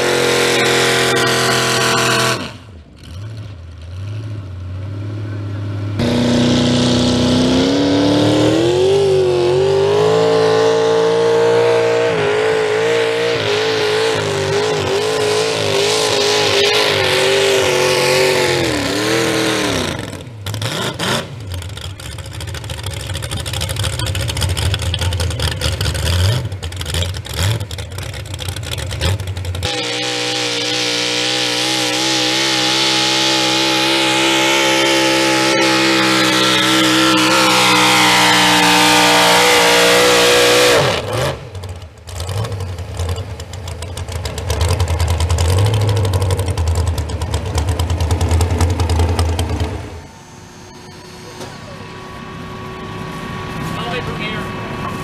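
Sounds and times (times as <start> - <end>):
low rough engine: 0.0 - 55.0
truck engine high drone: 0.0 - 55.0.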